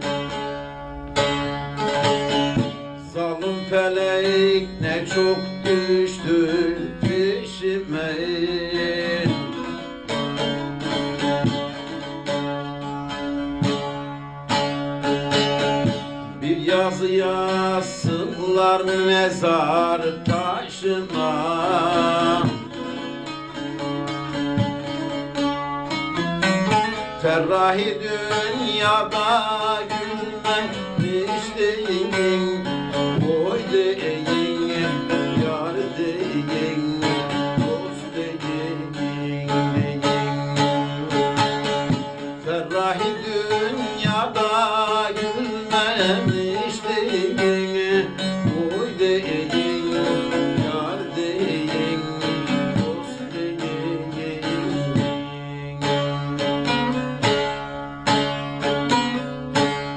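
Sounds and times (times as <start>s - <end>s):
long-necked lute melody: 0.0s - 59.9s.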